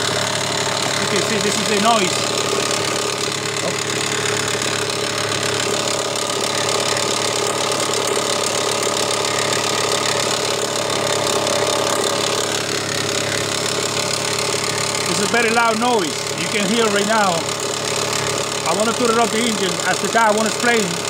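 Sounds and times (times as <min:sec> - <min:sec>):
car engine running: 0:00.0 - 0:21.0
loud engine knock: 0:00.0 - 0:21.0.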